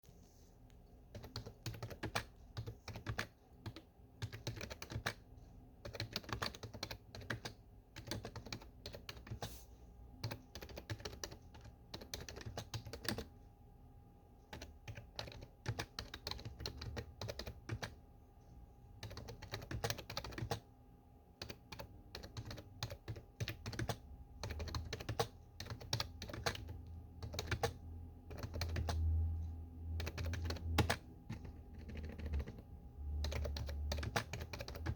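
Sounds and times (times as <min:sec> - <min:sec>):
computer keyboard typing: 0:01.1 - 0:09.5, 0:10.2 - 0:13.4, 0:14.4 - 0:18.0, 0:18.9 - 0:20.7, 0:21.3 - 0:34.9.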